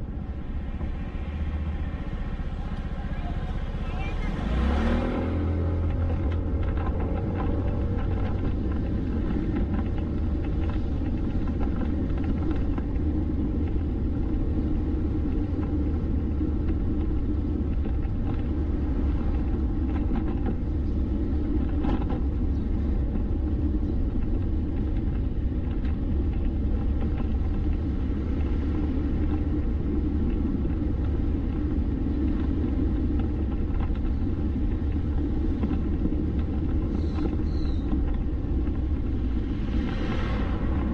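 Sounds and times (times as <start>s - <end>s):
vehicle engine and tyre rumble: 0.0s - 40.9s.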